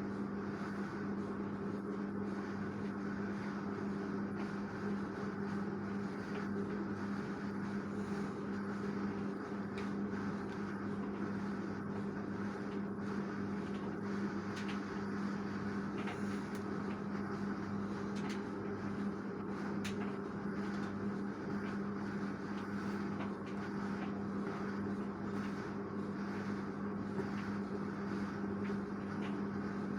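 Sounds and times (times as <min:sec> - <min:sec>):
washing machine humming: 0:00.0 - 0:29.9.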